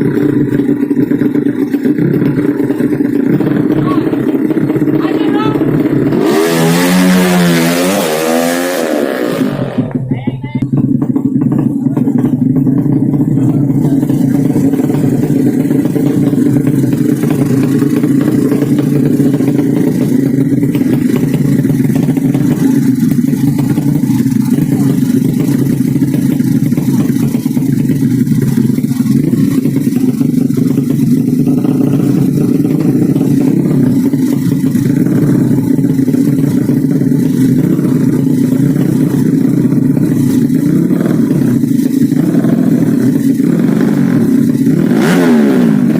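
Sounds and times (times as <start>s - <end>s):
motorcycle engine running loud: 0.0s - 45.9s.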